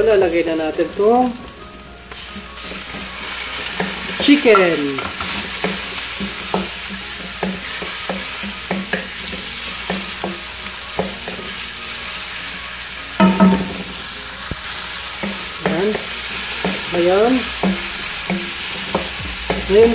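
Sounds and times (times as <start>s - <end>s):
chicken sizzling in hot oil: 0.0s - 19.9s.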